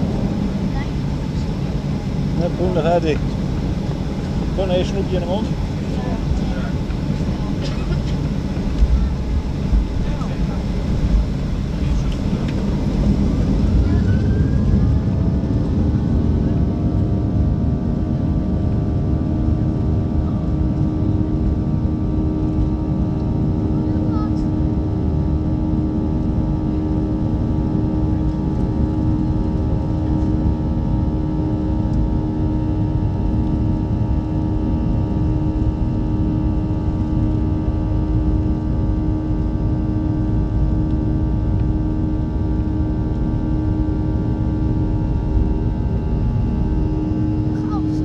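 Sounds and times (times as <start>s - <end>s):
jet engines roaring in cabin: 0.0s - 48.0s.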